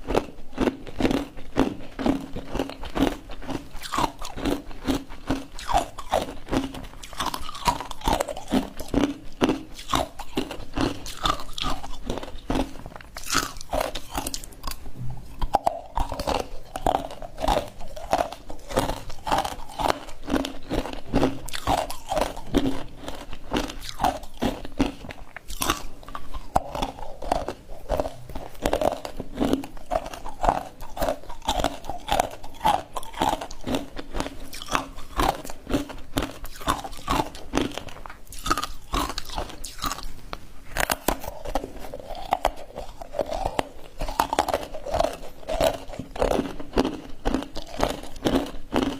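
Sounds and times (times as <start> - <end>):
ice being chewed: 0.0 - 48.9.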